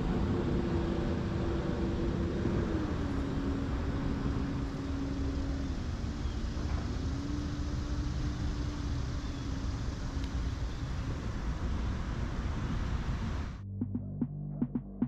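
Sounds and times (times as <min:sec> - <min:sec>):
electric motor humming: 0:00.0 - 0:13.4
low rumble: 0:00.0 - 0:15.0.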